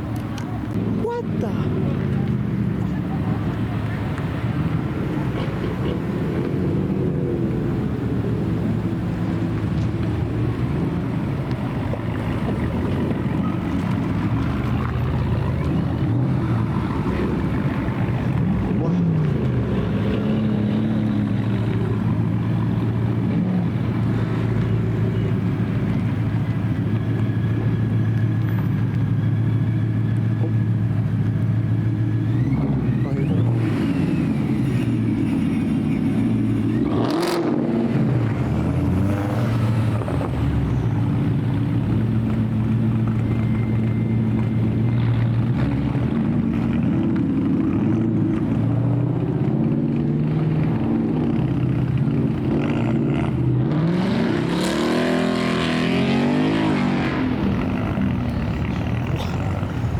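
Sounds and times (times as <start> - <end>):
car engines running: 0.0 - 59.9.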